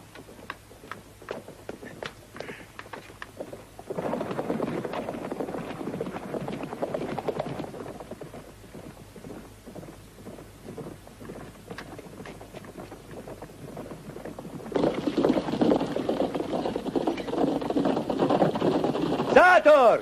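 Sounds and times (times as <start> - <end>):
horses galloping: 0.0 - 20.0.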